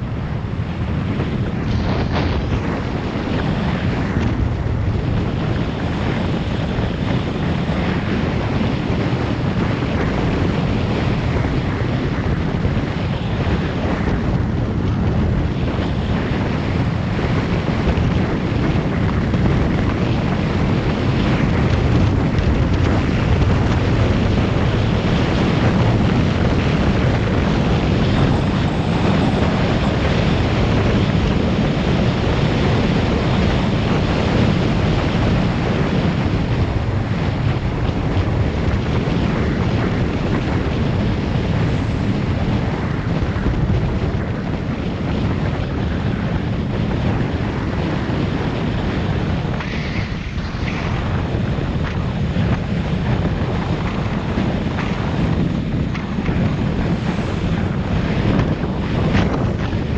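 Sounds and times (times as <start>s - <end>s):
road noise: 0.0s - 59.9s
wind buffeting microphone: 0.0s - 59.9s.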